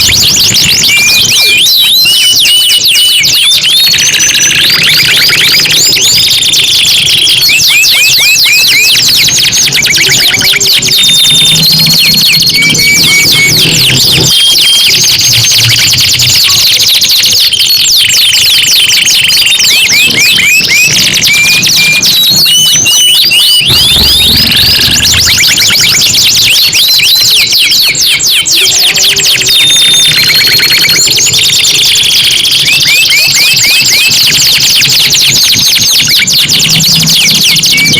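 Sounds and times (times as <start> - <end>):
canaries singing: 0.0 - 37.9.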